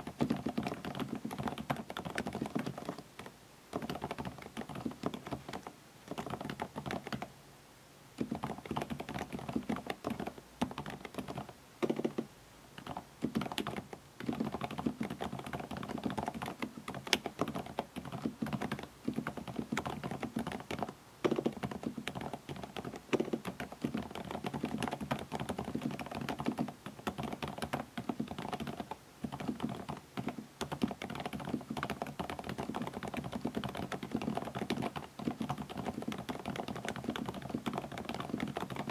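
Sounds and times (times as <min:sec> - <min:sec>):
soft muffled keyboard typing: 0:00.0 - 0:07.3, 0:08.2 - 0:38.9.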